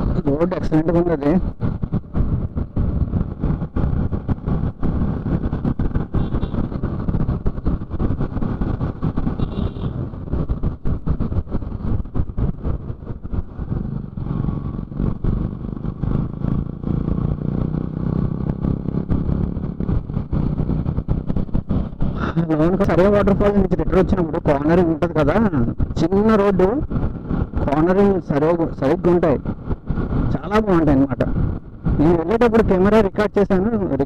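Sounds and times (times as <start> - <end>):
motorcycle engine rumbling: 0.0 - 34.0.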